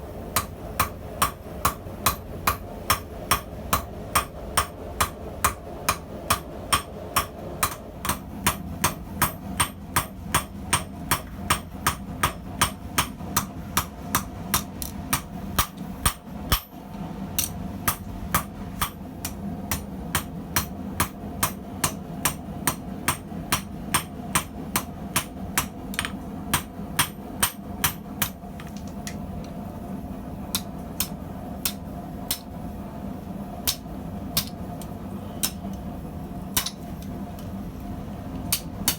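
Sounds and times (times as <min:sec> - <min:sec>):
steady low hum: 0:00.0 - 0:38.9
hammer striking hot steel on anvil: 0:00.3 - 0:16.8, 0:17.4 - 0:28.4, 0:30.5 - 0:32.6, 0:33.6 - 0:35.8, 0:36.5 - 0:36.8, 0:38.5 - 0:38.9.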